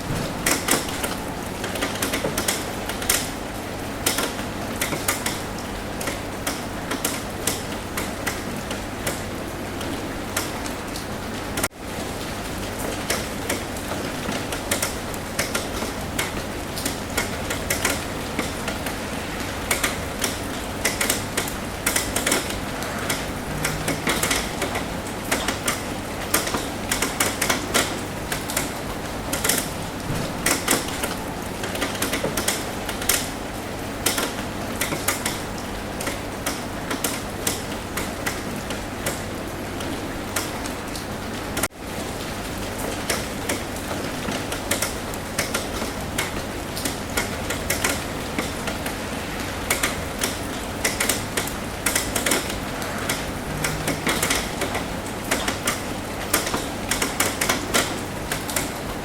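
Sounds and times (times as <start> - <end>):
rain tapping on a roof: 0.0 - 59.0.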